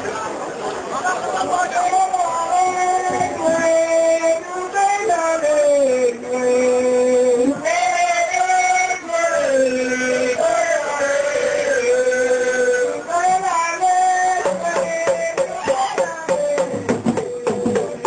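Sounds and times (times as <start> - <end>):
man singing through microphone: 1.0 - 18.0.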